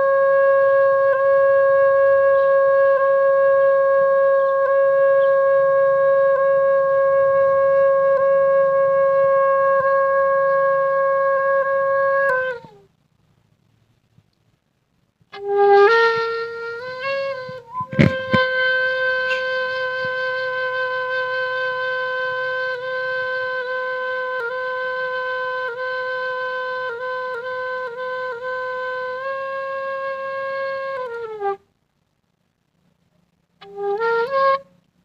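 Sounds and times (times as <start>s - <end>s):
bamboo flute solo: 0.0s - 12.9s, 15.3s - 31.7s, 33.6s - 34.9s.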